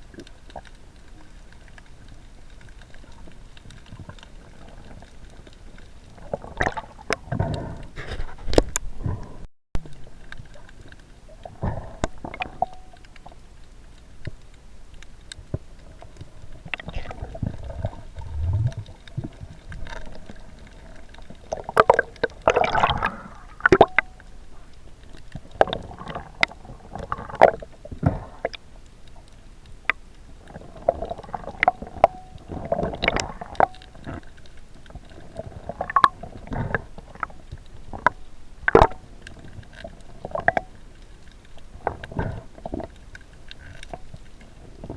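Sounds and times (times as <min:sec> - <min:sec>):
underwater sloshing and gurgling: 0:00.0 - 0:44.9.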